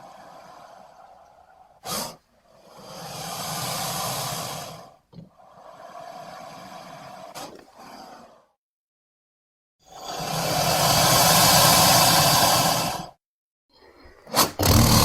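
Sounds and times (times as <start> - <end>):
crocodile hissing: 0.0 - 8.6, 9.8 - 13.2, 14.3 - 15.0.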